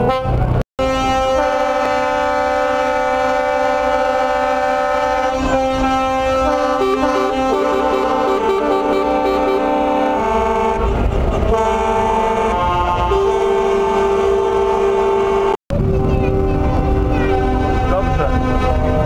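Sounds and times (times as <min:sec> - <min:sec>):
musical air horns playing a tune: 0:00.0 - 0:19.0
low engine rumble: 0:01.8 - 0:19.0.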